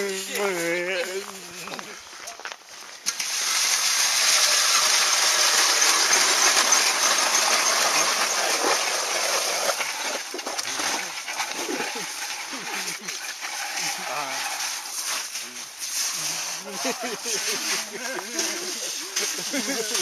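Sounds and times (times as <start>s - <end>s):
ice augers scraping through ice: 0.0s - 20.0s.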